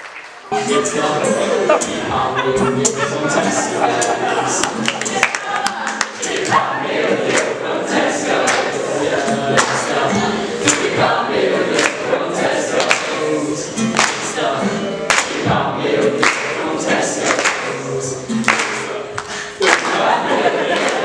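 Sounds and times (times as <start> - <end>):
choir singing with music: 0.5 - 21.0.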